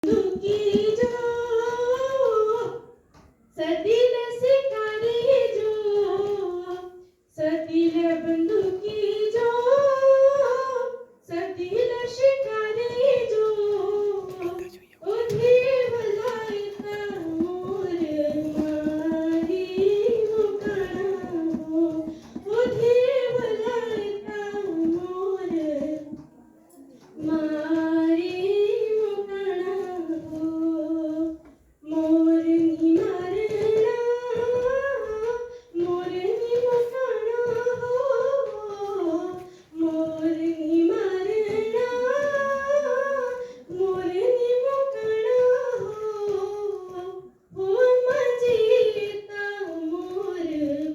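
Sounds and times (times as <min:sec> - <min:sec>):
girl singing unaccompanied: 0:00.0 - 0:50.9.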